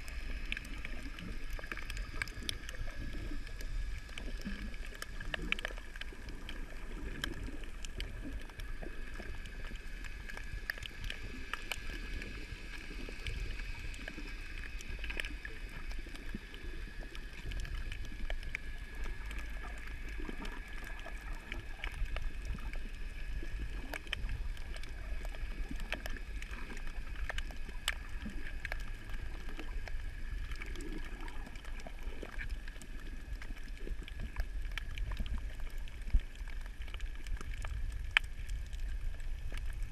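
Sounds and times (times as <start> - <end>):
low underwater rumble: 0.0 - 39.9.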